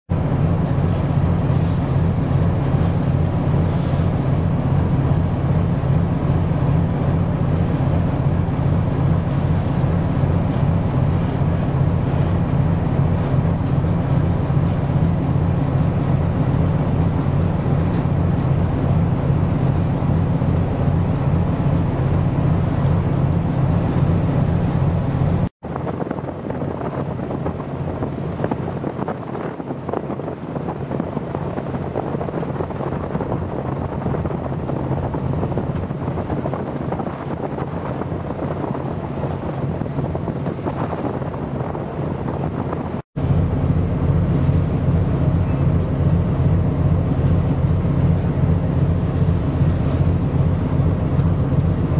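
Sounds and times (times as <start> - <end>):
ship diesel engine throbbing: 0.1 - 51.9
wind noise on microphone: 0.1 - 51.9.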